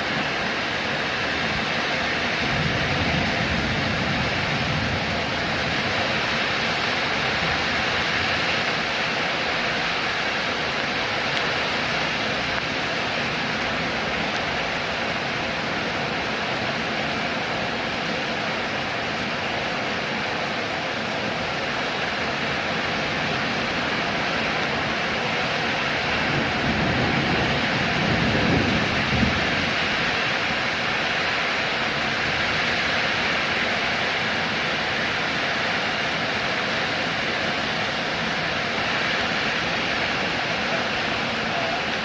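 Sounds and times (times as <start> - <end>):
steady rainfall hiss: 0.0 - 42.0.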